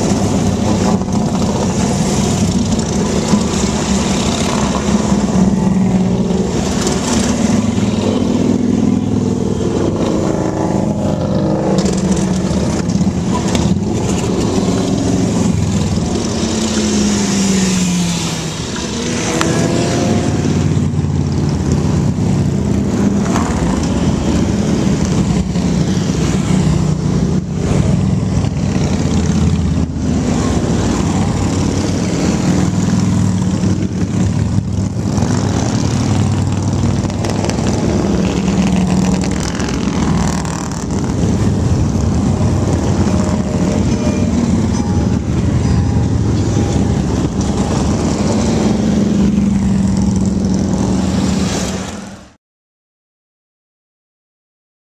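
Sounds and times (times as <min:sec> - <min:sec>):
motorcycles riding past: 0:00.0 - 0:52.3
cars passing: 0:00.0 - 0:52.4.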